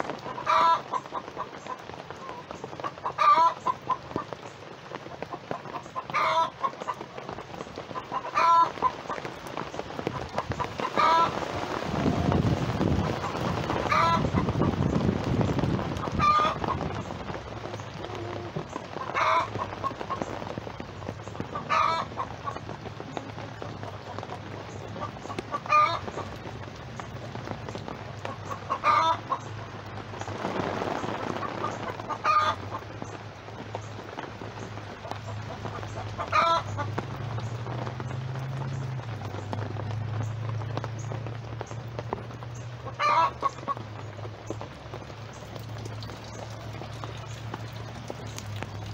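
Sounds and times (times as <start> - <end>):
rain dripping: 0.0 - 48.9
chickens calling: 0.1 - 27.1, 27.8 - 33.2, 33.8 - 37.7, 42.5 - 48.9.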